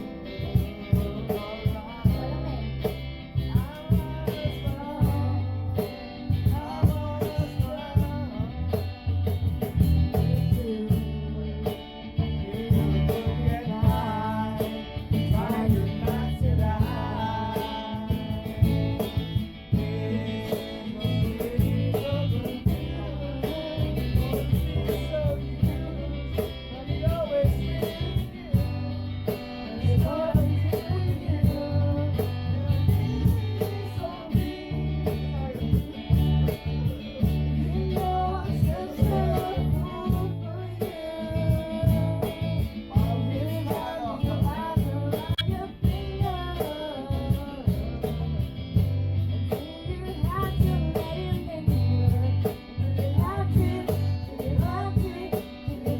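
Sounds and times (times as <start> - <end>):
person singing: 0.0 - 55.9
strummed acoustic guitar: 0.0 - 55.9.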